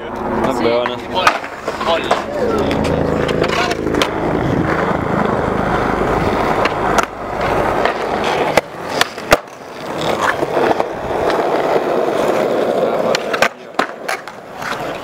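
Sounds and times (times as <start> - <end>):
skateboard wheels rolling on concrete: 0.0 - 15.0
skateboard clacks: 0.8 - 5.3, 6.2 - 15.0.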